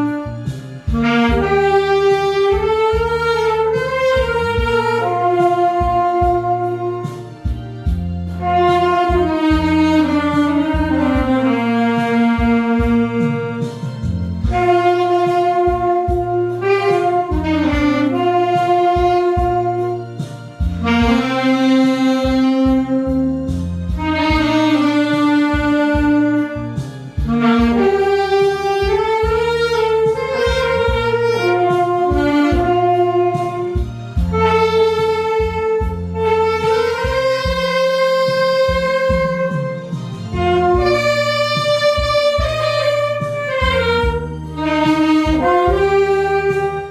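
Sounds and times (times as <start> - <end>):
backing track with bass and beat: 0.0 - 46.9
solo saxophone melody: 0.0 - 46.9.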